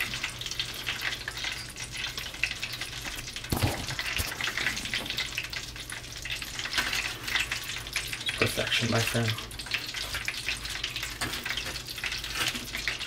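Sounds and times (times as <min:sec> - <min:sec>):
fried food crackling and sizzling: 0:00.0 - 0:13.0
hot oil popping: 0:00.0 - 0:13.0.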